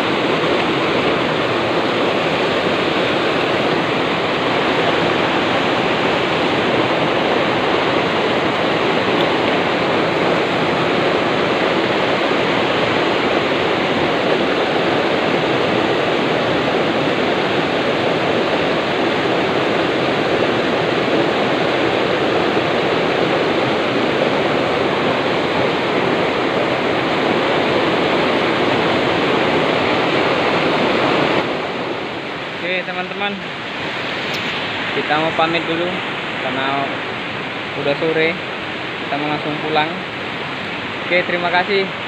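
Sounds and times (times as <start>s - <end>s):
water rushing through channel: 0.0s - 42.0s.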